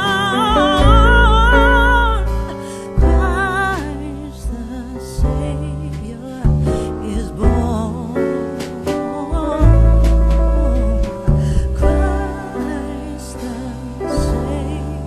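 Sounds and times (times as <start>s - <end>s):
person singing: 0.0s - 15.0s
steady bass: 0.0s - 15.0s.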